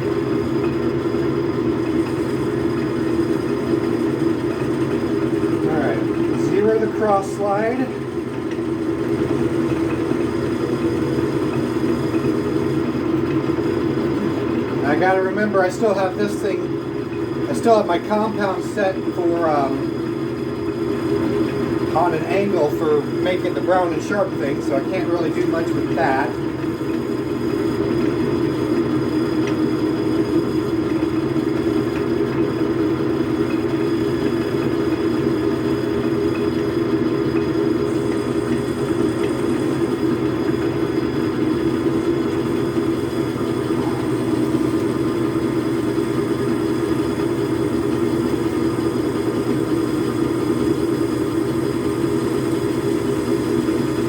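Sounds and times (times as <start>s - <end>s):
metal lathe humming: 0.0s - 54.0s.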